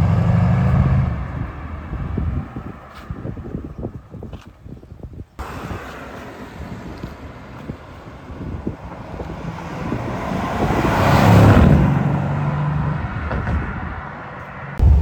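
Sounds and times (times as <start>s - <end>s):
car engine and exhaust: 0.0s - 4.8s, 5.4s - 15.0s.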